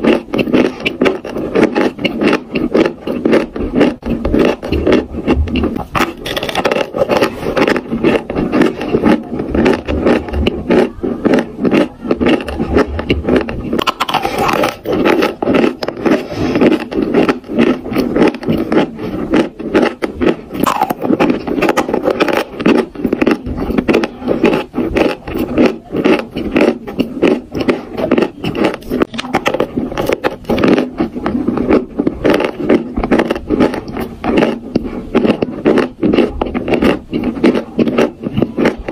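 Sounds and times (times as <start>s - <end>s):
chalk being chewed: 0.0s - 38.9s.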